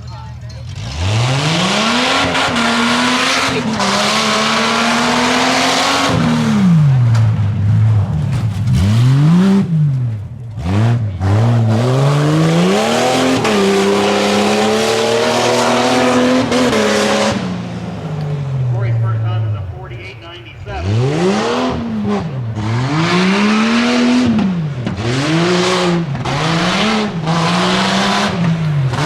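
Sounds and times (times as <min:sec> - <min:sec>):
truck engine racing: 0:00.0 - 0:29.0.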